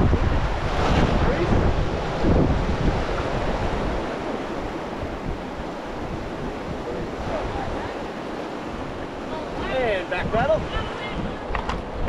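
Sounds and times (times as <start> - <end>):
river water rushing: 0.0 - 12.0
wind buffeting microphone: 0.0 - 12.0.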